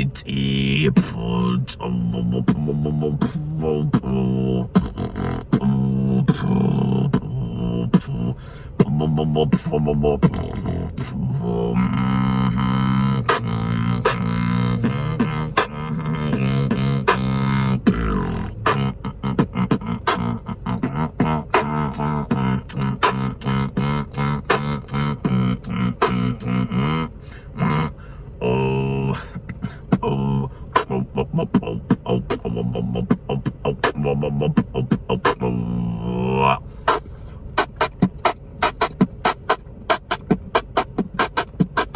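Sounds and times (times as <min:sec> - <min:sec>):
beatboxing hummed bass line: 0:00.0 - 0:41.9
beatboxed kicks and snares: 0:00.9 - 0:27.0, 0:29.1 - 0:36.1, 0:36.8 - 0:41.9.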